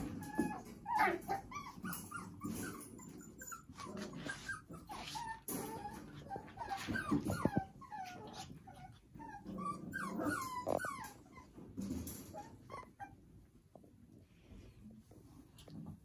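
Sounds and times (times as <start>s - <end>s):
puppies whining and whimpering: 0.0s - 13.7s.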